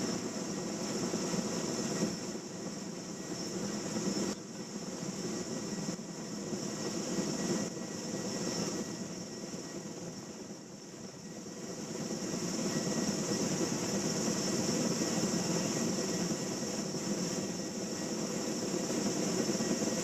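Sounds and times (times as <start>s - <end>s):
helicopter rotor drone: 0.0s - 20.0s
high turbine whine: 0.0s - 20.0s.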